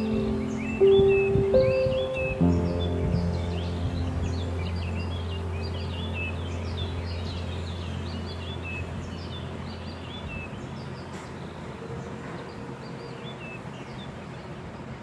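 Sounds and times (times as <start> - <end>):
steady low hum: 0.0 - 12.1
small birds chirping: 0.0 - 15.0.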